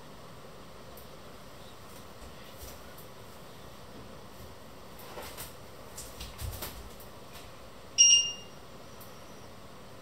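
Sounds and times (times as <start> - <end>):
low hiss of room noise: 0.0 - 10.0.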